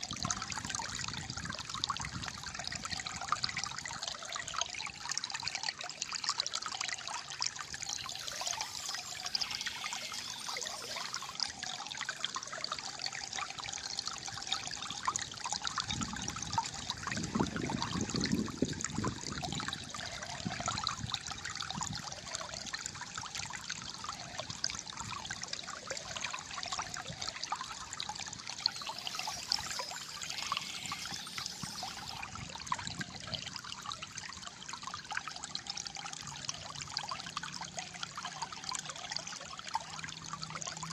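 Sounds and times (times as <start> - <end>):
shallow water trickling and gurgling: 0.0 - 40.9.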